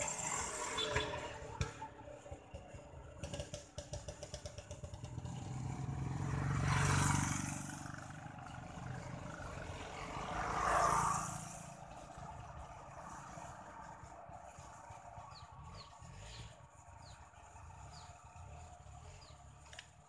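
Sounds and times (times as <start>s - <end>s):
vehicles passing on road: 0.0s - 20.0s.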